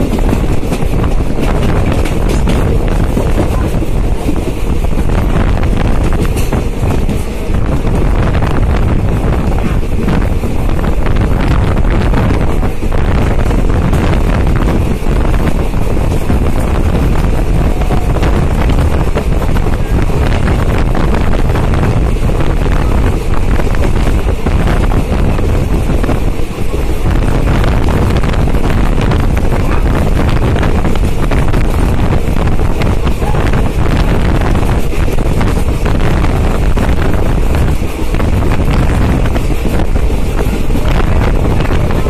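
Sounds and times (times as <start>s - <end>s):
train running noise on board: 0.0s - 42.0s
wind buffeting microphone: 0.0s - 42.0s.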